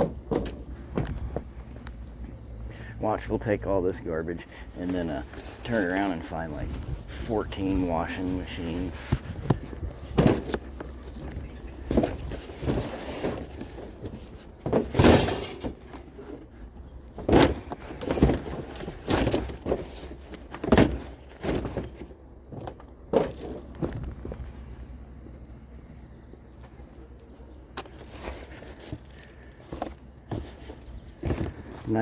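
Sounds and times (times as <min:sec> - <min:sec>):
junk thumping and clattering: 0:00.0 - 0:02.8, 0:04.4 - 0:25.6, 0:27.6 - 0:32.0.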